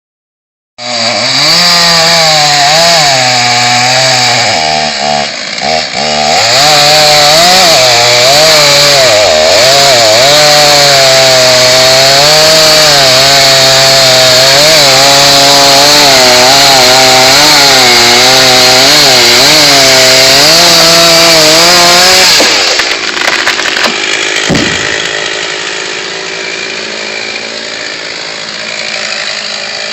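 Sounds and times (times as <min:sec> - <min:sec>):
chainsaw cutting wood: 0:00.8 - 0:29.9.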